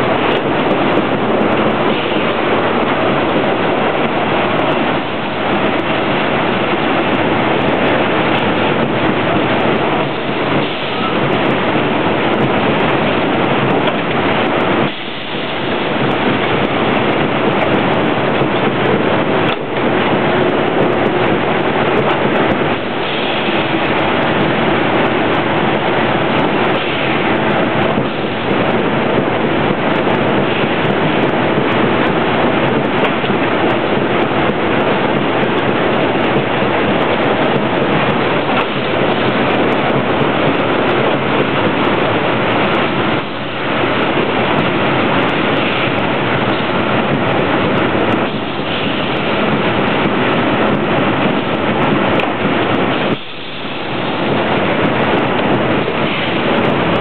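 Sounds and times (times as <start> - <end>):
factory machinery rushing noise: 0.0 - 57.0.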